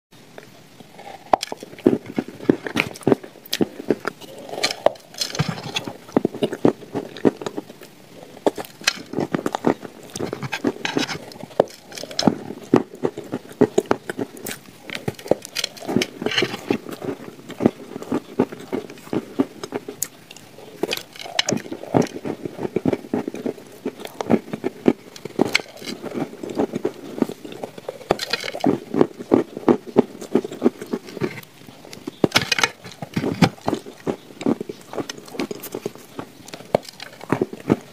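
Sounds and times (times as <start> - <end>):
crunching shortbread: 0.4 - 37.9.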